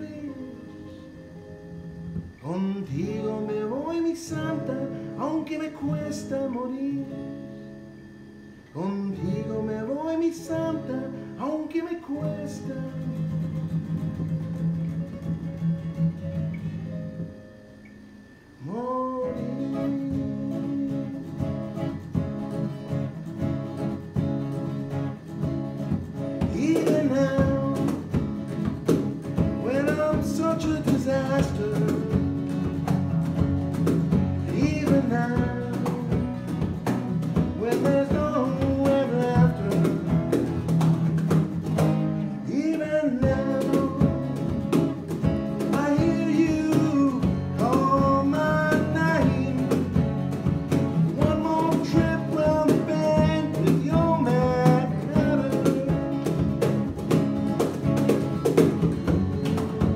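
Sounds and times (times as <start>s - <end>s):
strummed acoustic guitars: 0.0s - 59.9s.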